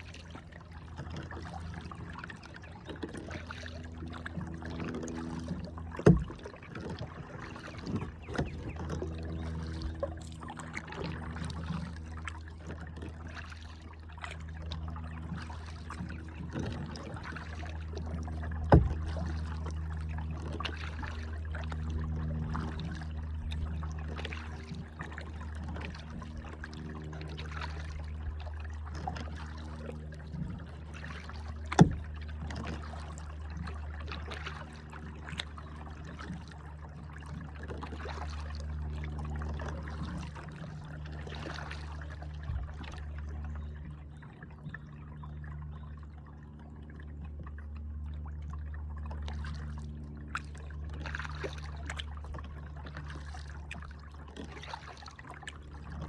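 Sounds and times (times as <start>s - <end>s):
kayak paddle splashing water: 0.0s - 56.0s
steady low rumble: 3.7s - 56.0s.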